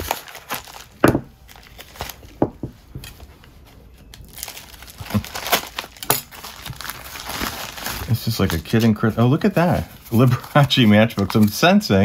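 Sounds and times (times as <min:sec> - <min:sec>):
cardboard envelope crinkling and tearing: 0:00.0 - 0:02.4, 0:04.0 - 0:12.0.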